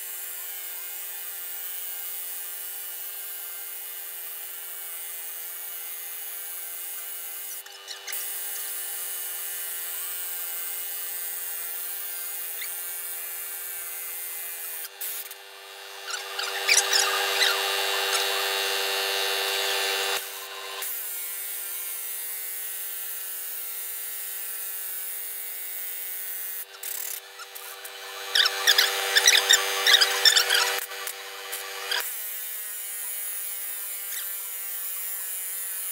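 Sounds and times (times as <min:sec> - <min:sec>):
pneumatic impact wrench whining: 0:00.6 - 0:35.9.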